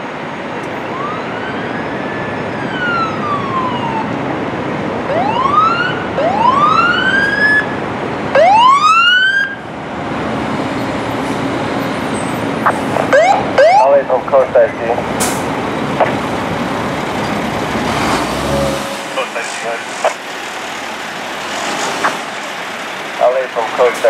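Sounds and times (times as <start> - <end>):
passing traffic: 0.0 - 24.0
truck engine: 0.0 - 24.0
fire truck siren: 0.6 - 9.9, 10.6 - 24.0.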